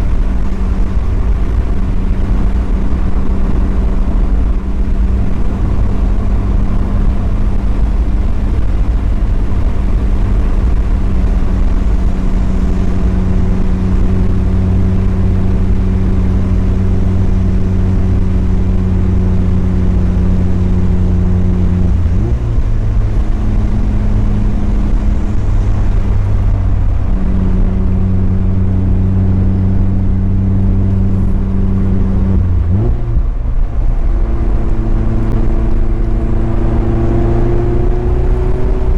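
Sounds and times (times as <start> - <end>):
car engine droning: 0.0 - 38.9
tyre and road noise: 0.0 - 38.9.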